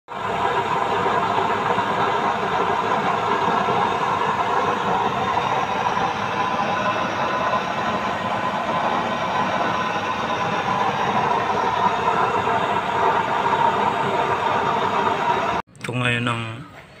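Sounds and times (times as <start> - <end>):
stove fan and flame rushing: 0.1 - 15.7.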